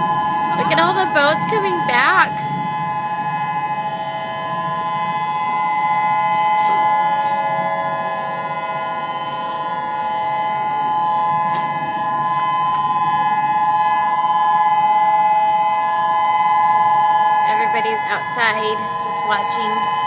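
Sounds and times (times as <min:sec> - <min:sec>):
warning sirens holding a chord: 0:00.0 - 0:20.0.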